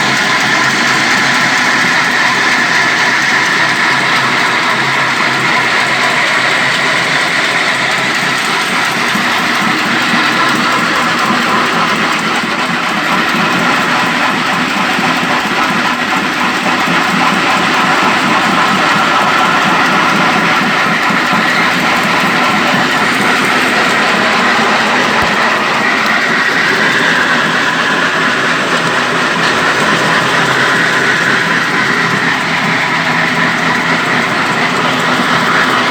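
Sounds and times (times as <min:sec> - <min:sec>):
stone-cutting machine running: 0:00.0 - 0:35.9.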